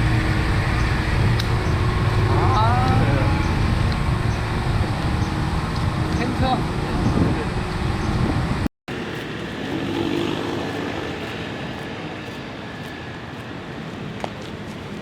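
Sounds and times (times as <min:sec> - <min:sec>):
loud low vehicle rumble: 0:00.0 - 0:14.2
vehicle and road noise: 0:00.0 - 0:15.0.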